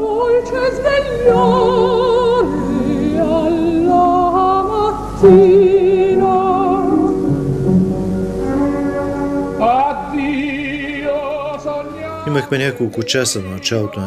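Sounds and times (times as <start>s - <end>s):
operatic soprano singing: 0.0s - 7.3s, 9.4s - 14.0s.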